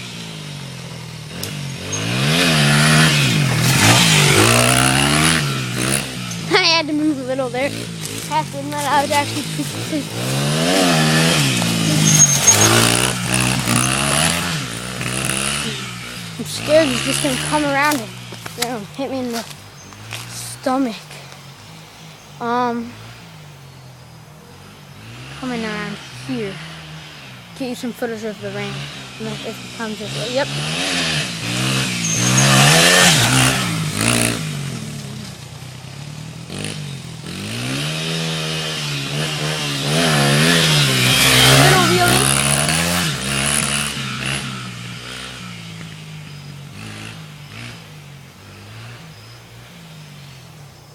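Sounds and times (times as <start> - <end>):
dirt bike engine revving: 0.0 - 23.9, 24.5 - 50.6.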